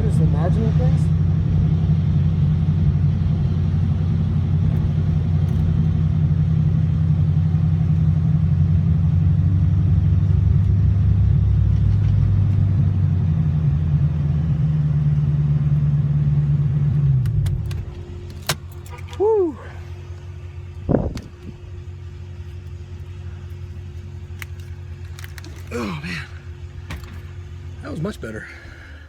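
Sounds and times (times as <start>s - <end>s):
road and wind noise: 0.0s - 25.6s
car engine running hard: 0.0s - 29.0s.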